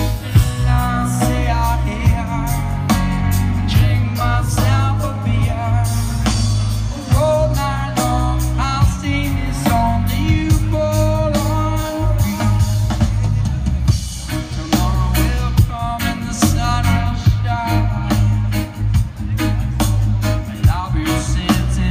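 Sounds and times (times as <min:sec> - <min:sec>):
heavy bass: 0:00.0 - 0:21.9
live reggae band over loudspeakers: 0:00.0 - 0:21.9
person singing: 0:00.0 - 0:21.9.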